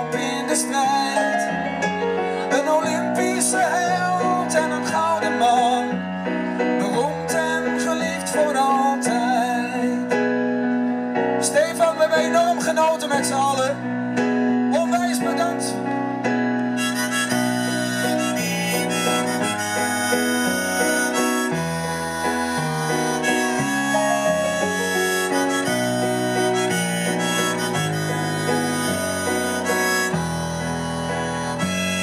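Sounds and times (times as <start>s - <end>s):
electric stage piano: 0.0s - 32.0s
harmonica melody: 0.0s - 32.0s.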